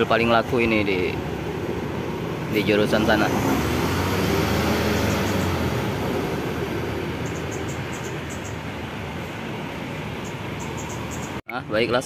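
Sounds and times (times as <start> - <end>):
bus diesel engine rumble: 0.0 - 11.4
steady traffic noise: 0.0 - 12.0.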